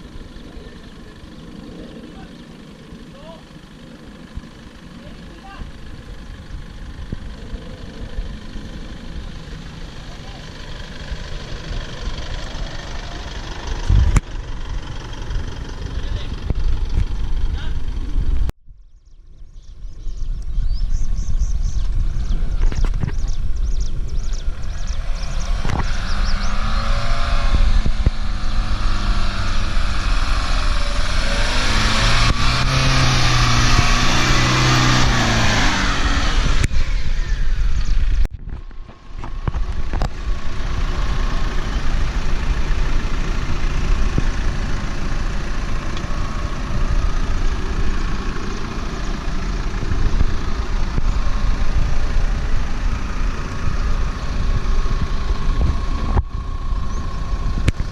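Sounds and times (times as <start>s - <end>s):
engine revving: 0.0s - 18.5s, 21.6s - 57.9s
vehicle rumble: 0.0s - 57.9s.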